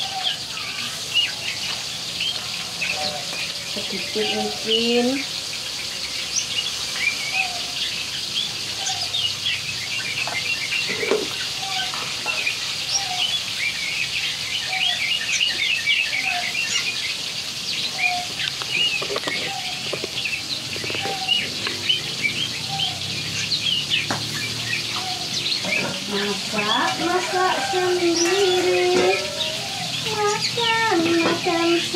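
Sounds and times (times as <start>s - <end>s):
high bird chirps: 0.0s - 31.9s
lower bird call: 6.2s - 31.9s.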